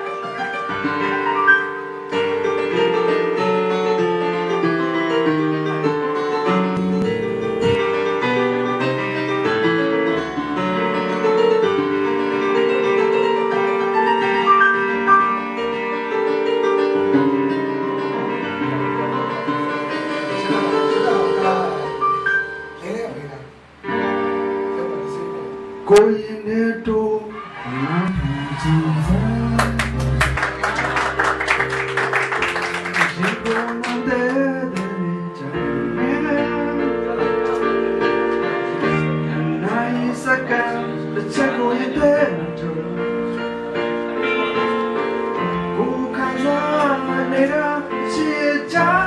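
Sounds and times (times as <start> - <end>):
piano-like keyboard music: 0.0 - 27.4, 28.1 - 49.0.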